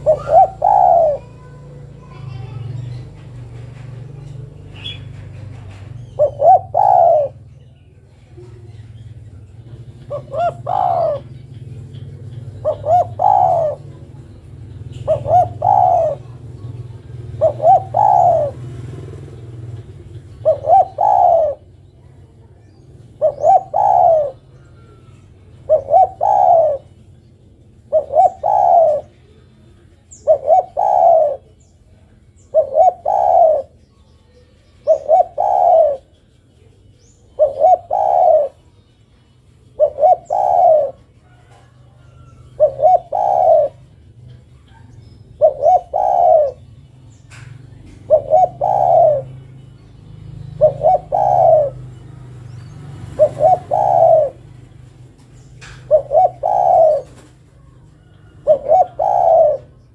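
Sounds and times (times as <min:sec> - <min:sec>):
dove cooing: 0:00.0 - 0:36.4, 0:37.0 - 0:59.9
small birds chirping: 0:00.0 - 0:59.9.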